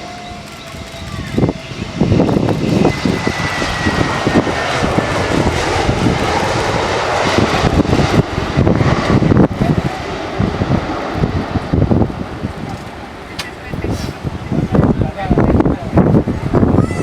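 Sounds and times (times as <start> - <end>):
airliner engines roaring: 0.0 - 17.0
wind buffeting microphone: 0.0 - 17.0.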